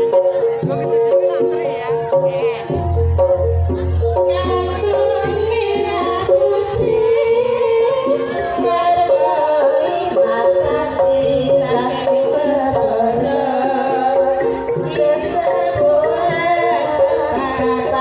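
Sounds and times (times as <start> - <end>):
traditional music with drums: 0.0 - 18.0
woman singing into microphone: 0.0 - 18.0.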